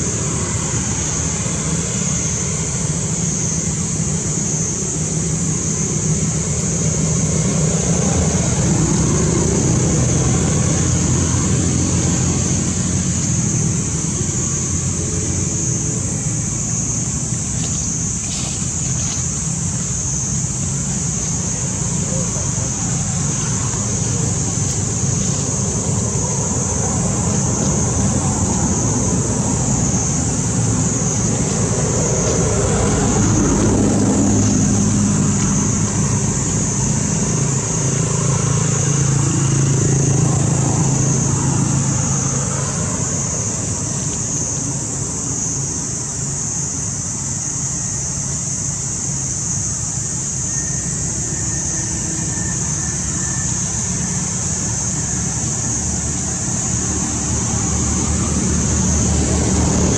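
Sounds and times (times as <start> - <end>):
high-pitched hiss: 0.0 - 59.9
vehicle engine passing: 6.2 - 45.4, 51.1 - 59.9.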